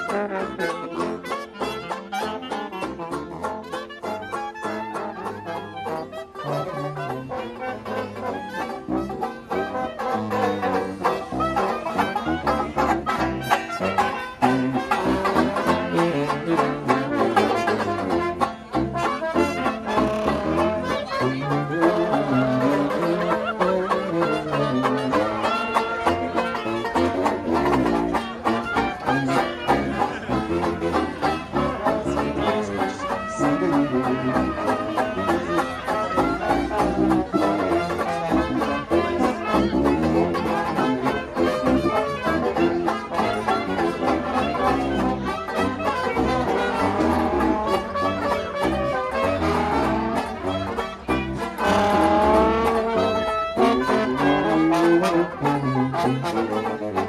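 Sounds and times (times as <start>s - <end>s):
banjo strumming: 0.0s - 57.0s
trombone and brass playing: 0.0s - 57.0s.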